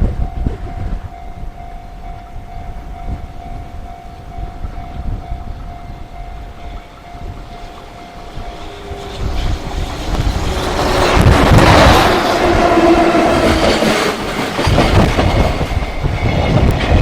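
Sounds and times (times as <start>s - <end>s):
freight train rumble: 0.0s - 17.0s
wind buffeting microphone: 0.0s - 17.0s.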